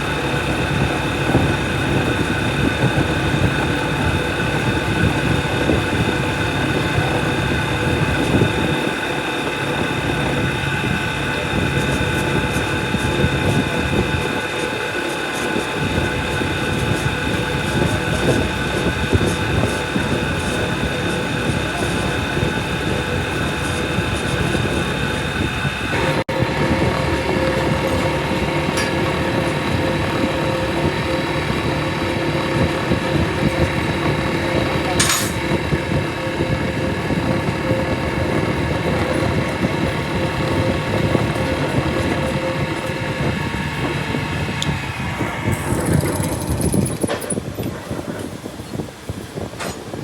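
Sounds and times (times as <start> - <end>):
workshop machine whining: 0.0 - 50.0.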